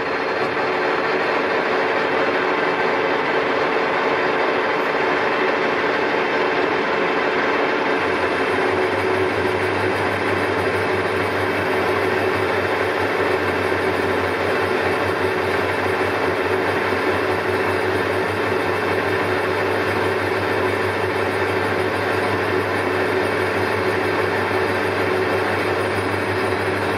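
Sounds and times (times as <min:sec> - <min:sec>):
lathe running noise: 0:00.0 - 0:26.9
lathe tool chattering: 0:00.0 - 0:26.9.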